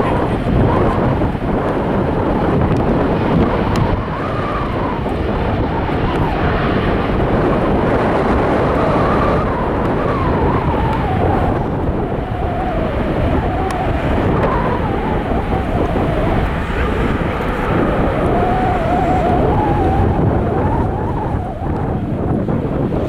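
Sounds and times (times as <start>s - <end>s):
jet engines whining: 0.0s - 23.0s
wind buffeting microphone: 0.0s - 23.0s.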